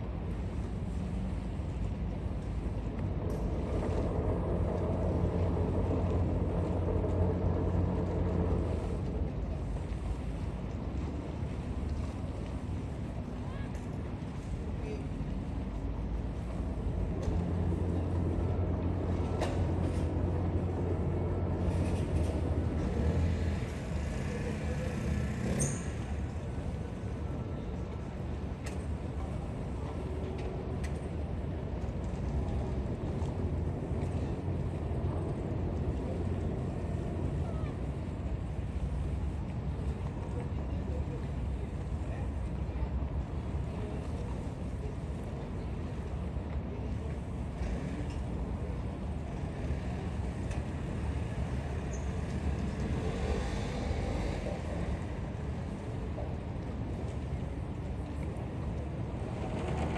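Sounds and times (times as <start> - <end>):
boat engines humming: 0.0 - 59.9.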